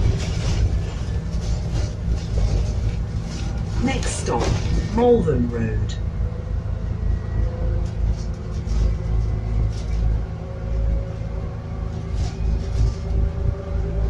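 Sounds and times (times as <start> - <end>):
bus engine rumble: 0.0 - 14.0
steady whine: 0.0 - 14.0.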